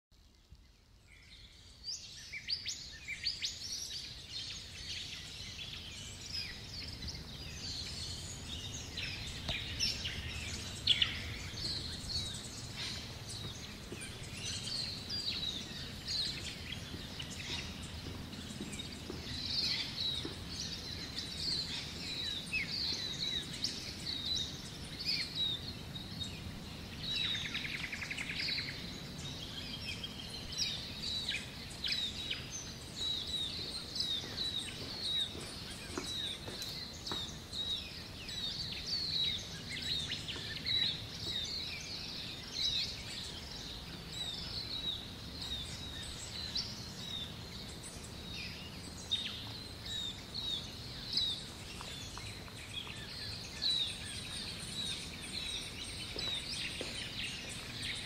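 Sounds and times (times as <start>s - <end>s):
birds chirping and calling: 1.2s - 58.0s.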